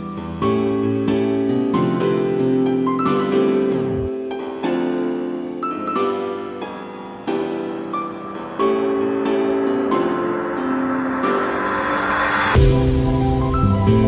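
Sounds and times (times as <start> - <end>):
keyboard playing sustained chords: 0.0 - 14.0.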